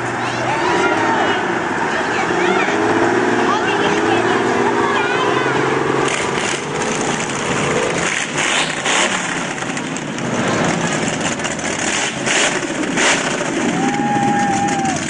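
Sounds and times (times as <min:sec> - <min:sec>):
noisy rushes: 0:00.0 - 0:15.0
pickup truck engine approaching: 0:00.0 - 0:15.0
quad bike engine running: 0:00.0 - 0:15.0.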